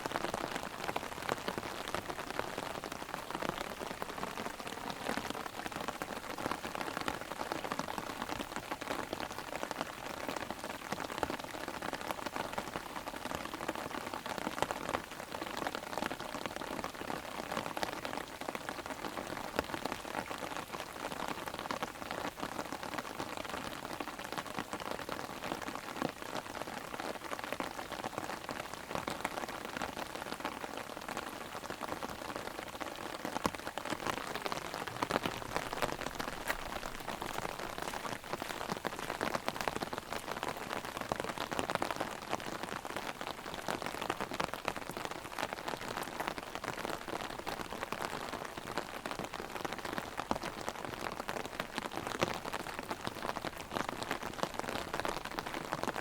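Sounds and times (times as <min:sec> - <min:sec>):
heavy rain on an umbrella: 0:00.0 - 0:56.0.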